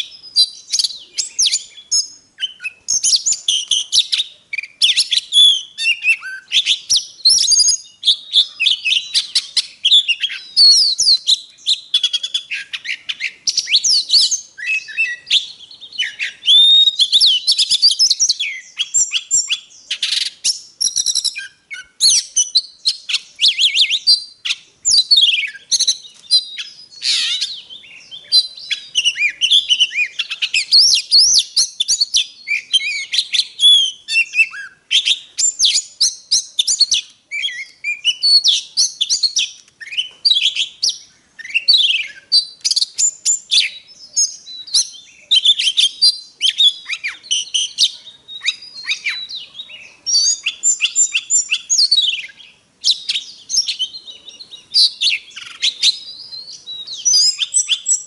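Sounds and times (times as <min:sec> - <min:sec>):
bird singing whistles: 0:00.0 - 0:58.0.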